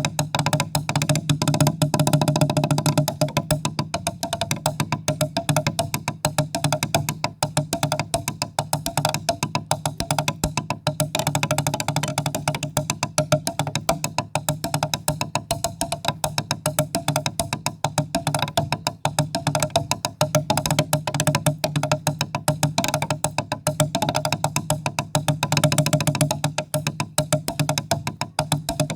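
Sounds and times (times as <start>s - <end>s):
wooden percussion strokes: 0.0s - 28.9s.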